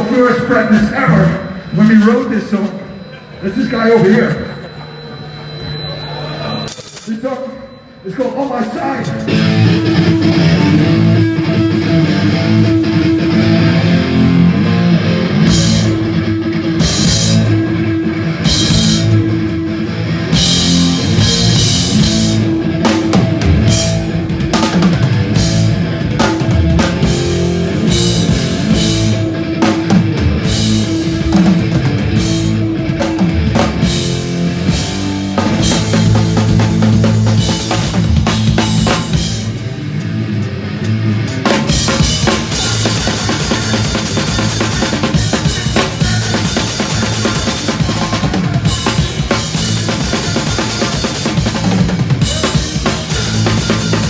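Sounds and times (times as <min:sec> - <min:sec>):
punk band playing live: 0:00.0 - 0:07.1, 0:08.6 - 0:54.0.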